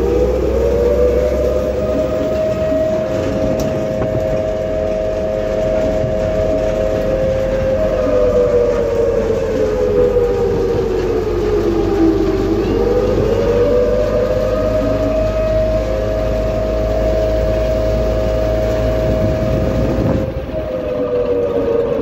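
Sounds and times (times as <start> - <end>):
vehicle whine: 0.0 - 22.0.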